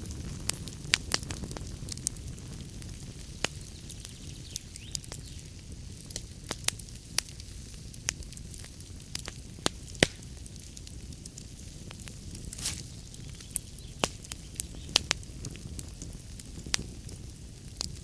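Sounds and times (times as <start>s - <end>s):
fire crackling and popping: 0.0s - 18.0s
wood fire flames rumbling: 0.0s - 18.0s.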